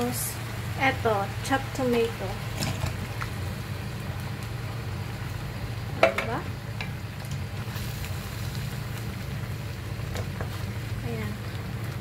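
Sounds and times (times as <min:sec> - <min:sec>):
hot pan sizzling: 0:00.0 - 0:12.0
steady low hum: 0:00.0 - 0:12.0.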